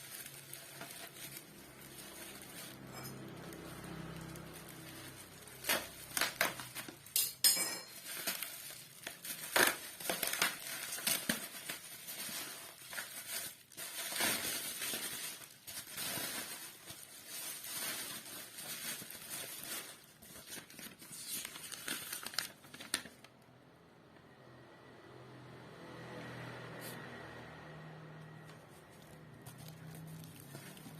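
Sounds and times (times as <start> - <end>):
packaging crinkling and rustling: 0.0 - 7.2, 7.9 - 23.4, 28.5 - 30.9.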